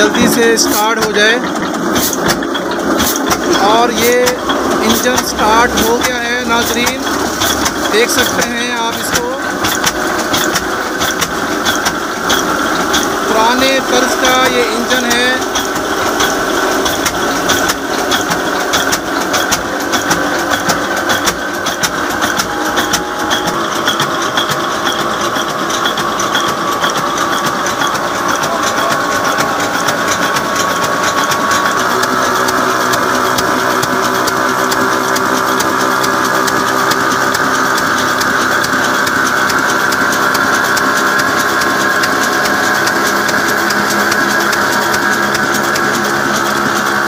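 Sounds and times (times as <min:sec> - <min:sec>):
diesel engine clattering: 0:00.0 - 0:47.0.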